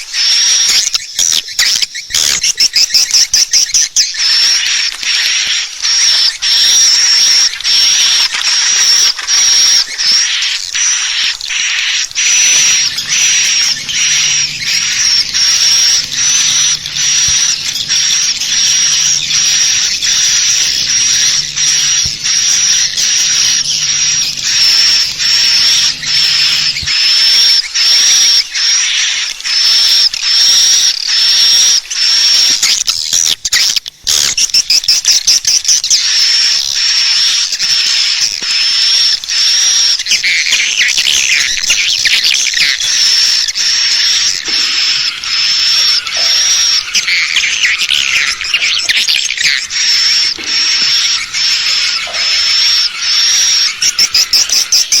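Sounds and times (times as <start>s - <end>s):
dense bird twittering: 0.0s - 55.0s
sharp high bird chirp: 0.0s - 55.0s.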